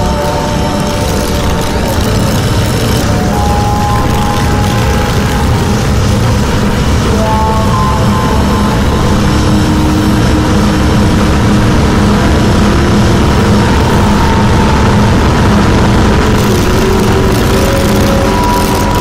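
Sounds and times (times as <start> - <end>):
harsh distorted noise music: 0.0 - 19.0.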